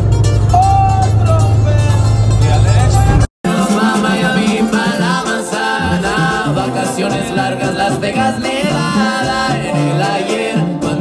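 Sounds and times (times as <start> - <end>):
person singing: 0.6 - 11.0.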